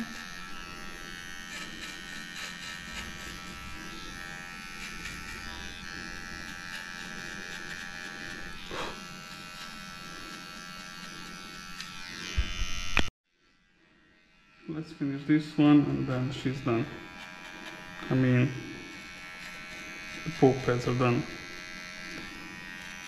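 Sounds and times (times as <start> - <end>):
electric clippers buzzing: 0.0 - 23.0.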